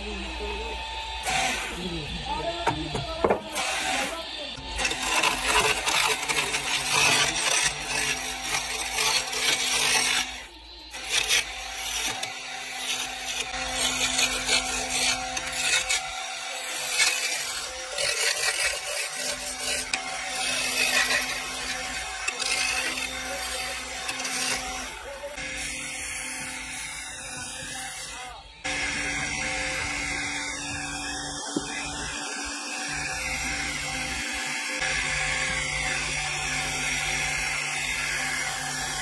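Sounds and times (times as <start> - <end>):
wood lathe motor humming: 0.0 - 39.0
chisel scraping spinning wood: 1.3 - 39.0.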